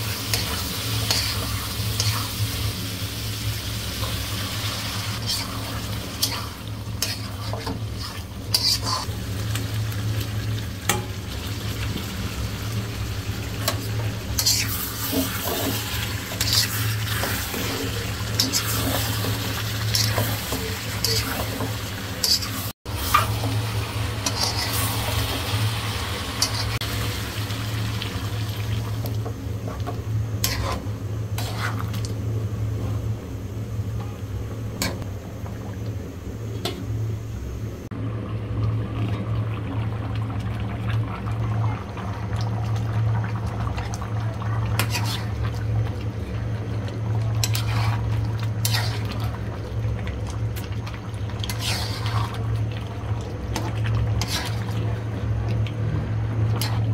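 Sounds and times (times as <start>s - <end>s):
liquid bubbling in a pan: 0.0s - 37.2s, 37.8s - 56.9s
steady low hum: 0.0s - 56.9s.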